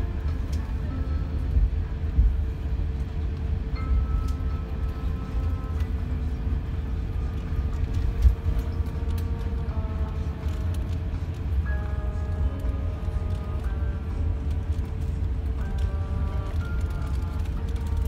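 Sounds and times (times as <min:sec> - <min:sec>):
airplane rolling and engines idling: 0:00.0 - 0:18.0
soft cabin music: 0:00.0 - 0:18.0
steady hum: 0:00.0 - 0:18.0.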